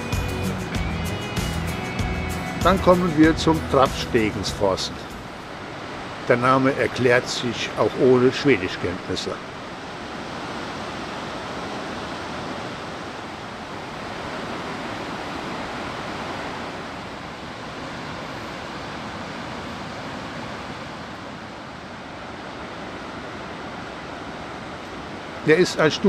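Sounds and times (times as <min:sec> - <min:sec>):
water rushing over waterfall: 0:02.6 - 0:26.0.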